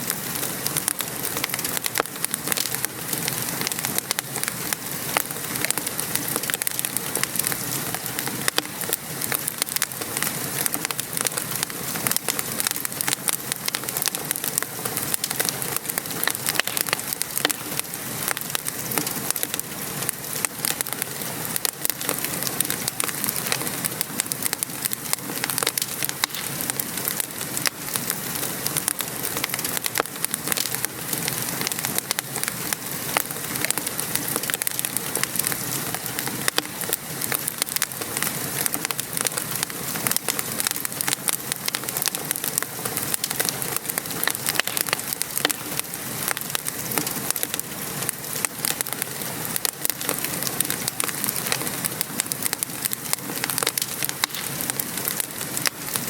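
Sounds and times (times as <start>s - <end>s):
rain falling: 0.0s - 56.0s
wood fire crackling: 0.0s - 56.0s.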